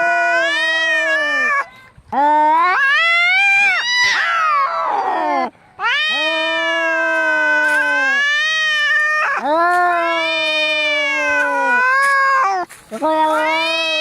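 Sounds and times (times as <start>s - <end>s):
cats yowling: 0.0s - 14.0s.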